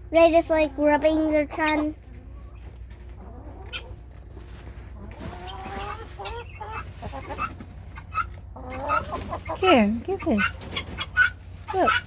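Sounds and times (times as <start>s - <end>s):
fowl clucking: 1.4s - 12.0s.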